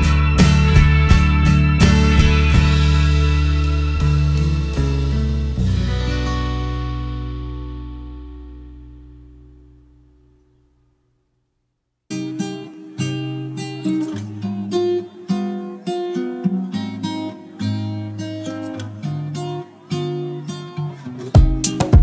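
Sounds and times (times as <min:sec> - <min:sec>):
acoustic guitar plucked notes: 0:00.0 - 0:10.9, 0:12.1 - 0:22.0.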